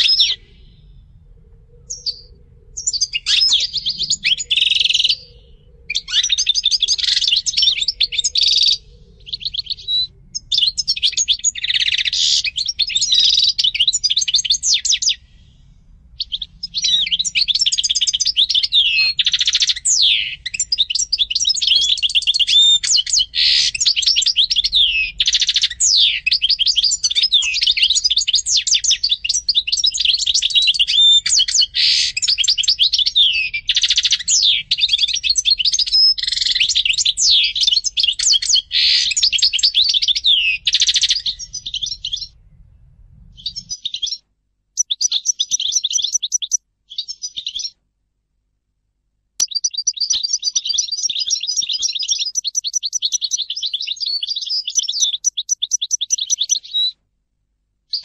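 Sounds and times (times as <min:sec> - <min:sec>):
goldfinch singing: 0:00.0 - 0:00.7, 0:01.9 - 0:15.3, 0:16.2 - 0:42.4, 0:44.8 - 0:47.8, 0:49.4 - 0:56.9.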